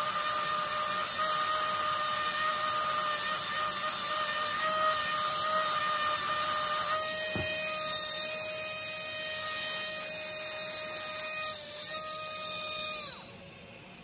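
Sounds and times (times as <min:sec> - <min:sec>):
air pen whining and hissing: 0:00.0 - 0:14.0.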